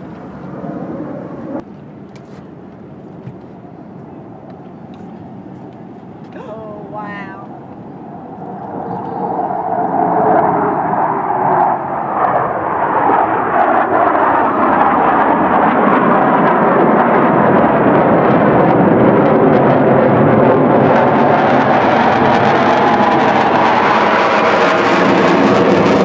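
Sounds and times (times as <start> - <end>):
aircraft flying past: 0.0 - 1.7, 2.8 - 26.0.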